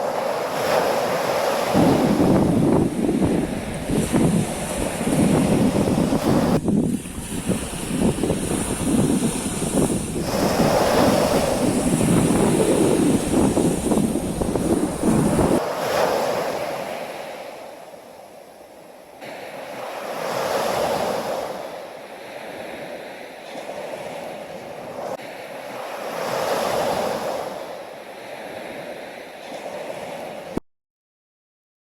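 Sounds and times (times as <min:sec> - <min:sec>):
ocean waves washing: 0:00.0 - 0:30.6.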